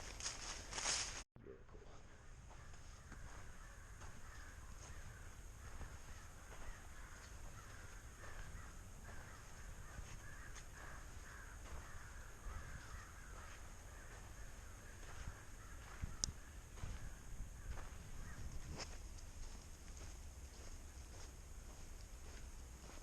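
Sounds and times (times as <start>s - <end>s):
faint crows cawing: 1.7s - 23.0s.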